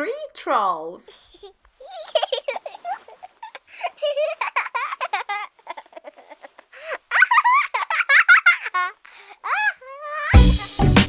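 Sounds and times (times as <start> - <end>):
child giggling and laughing: 1.1 - 10.4.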